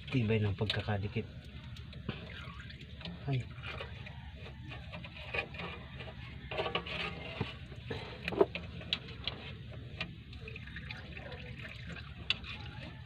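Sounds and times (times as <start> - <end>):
fluid dripping: 0.0 - 5.3, 7.7 - 13.0.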